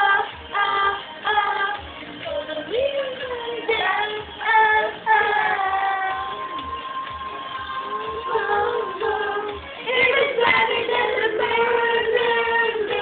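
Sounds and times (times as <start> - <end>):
pop music with high singing voice: 0.0 - 13.0.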